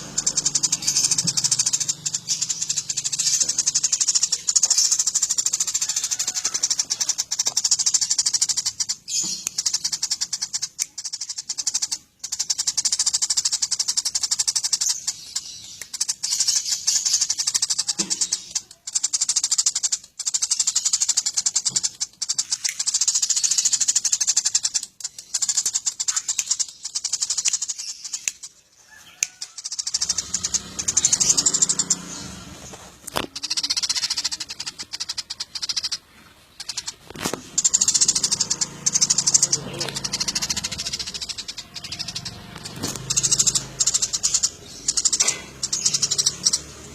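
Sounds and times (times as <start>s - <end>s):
sparrows chirping: 0.0s - 46.9s.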